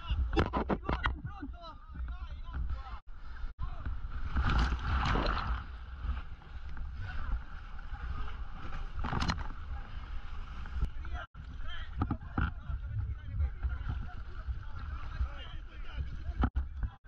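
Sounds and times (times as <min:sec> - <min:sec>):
waves splashing against hull: 0:00.2 - 0:17.0.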